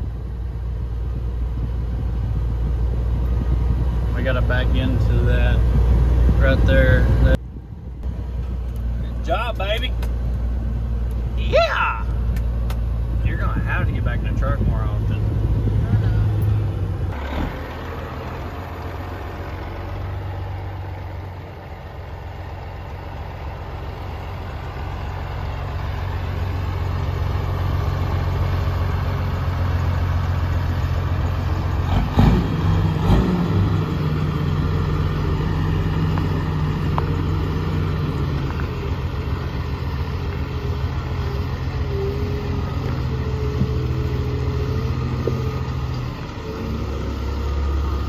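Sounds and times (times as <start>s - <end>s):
truck diesel engine running: 0.0s - 48.0s.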